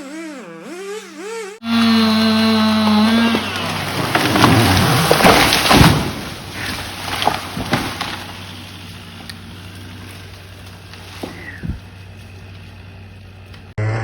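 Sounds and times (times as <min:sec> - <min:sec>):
chainsaw at full throttle: 0:00.0 - 0:14.0
tree crashing through branches: 0:01.6 - 0:13.7
wood snapping: 0:01.7 - 0:13.7.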